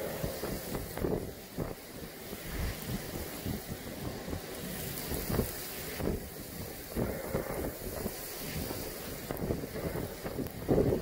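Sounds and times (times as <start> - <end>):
strong wind gusting: 0.0 - 11.0
wind buffeting microphone: 0.0 - 11.0
wind-driven rain: 0.0 - 11.0.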